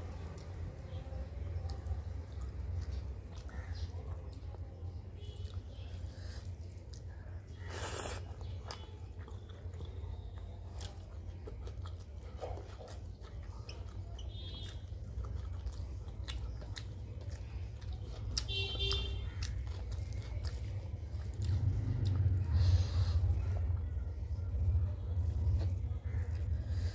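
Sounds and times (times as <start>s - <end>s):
chewing with wet mouth clicks: 0.0s - 26.9s.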